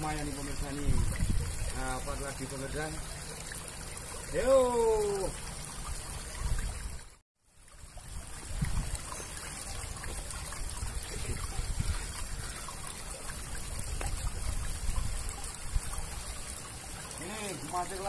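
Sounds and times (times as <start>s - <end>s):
water trickling through drain: 0.0s - 18.0s.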